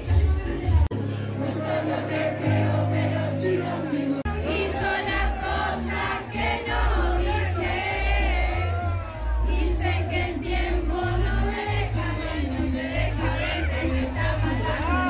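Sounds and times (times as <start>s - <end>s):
crowd singing along: 0.0s - 15.0s.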